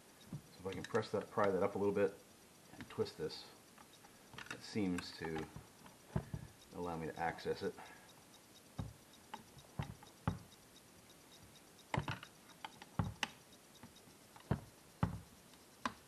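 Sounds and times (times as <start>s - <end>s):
sharp metal clicks and taps: 0.2s - 1.8s, 2.8s - 16.0s.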